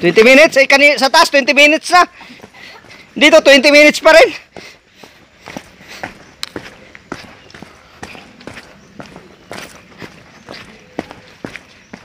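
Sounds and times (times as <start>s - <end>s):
footsteps on dirt trail: 0.0s - 12.0s.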